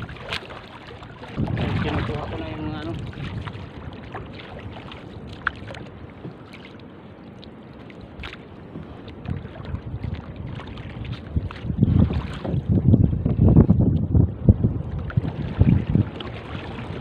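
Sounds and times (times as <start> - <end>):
paddle strokes in water: 0.0 - 17.0
water sloshing along hull: 0.0 - 17.0
wind rumble on microphone: 0.0 - 17.0.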